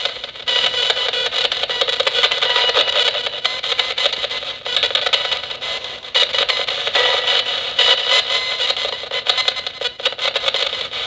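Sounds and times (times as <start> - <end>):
choppy radio static: 0.0 - 11.0.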